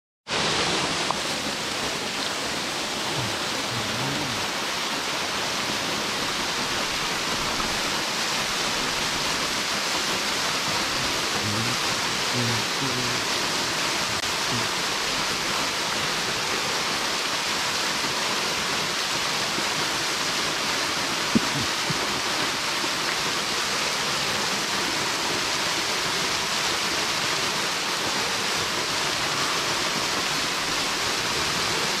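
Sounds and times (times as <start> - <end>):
small waterfall into pool: 0.3 - 32.0.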